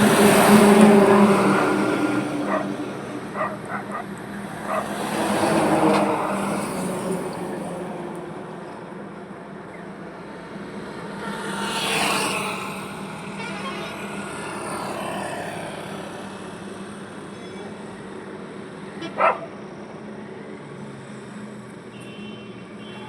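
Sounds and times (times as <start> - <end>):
steady engine hum: 0.0 - 21.8
vehicles passing on highway: 0.0 - 23.0.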